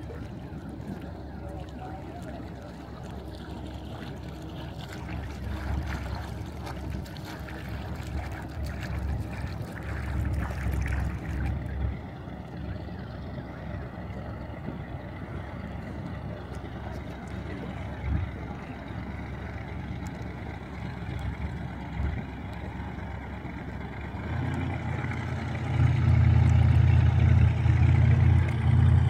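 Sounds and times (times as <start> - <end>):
water noise from moving boat: 0.0 - 29.0.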